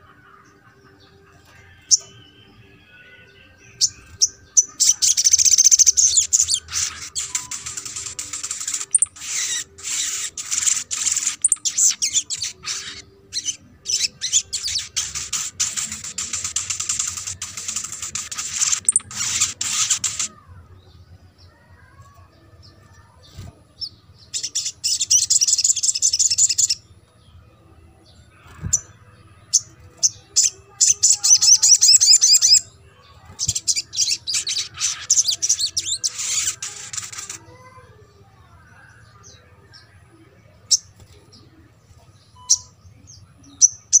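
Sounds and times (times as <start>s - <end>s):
bird chirping trills: 0.0s - 44.0s.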